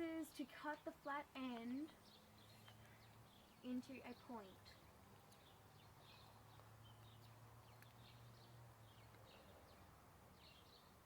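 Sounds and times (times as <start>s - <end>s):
small bird chirps: 0.7s - 11.0s.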